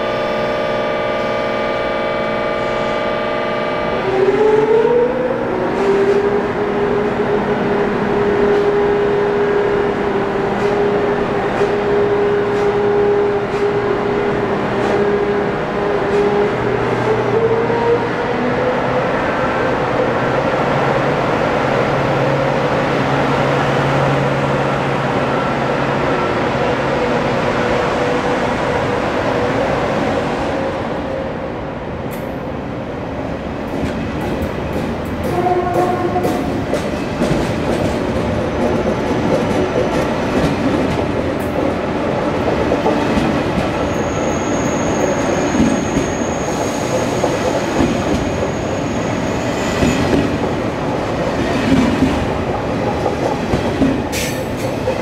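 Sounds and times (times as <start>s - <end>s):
train running rumble: 5.4s - 55.0s.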